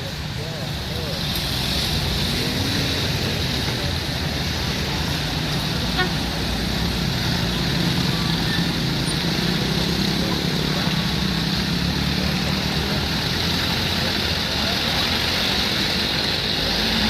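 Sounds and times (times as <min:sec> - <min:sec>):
engine rumble: 0:00.0 - 0:17.0.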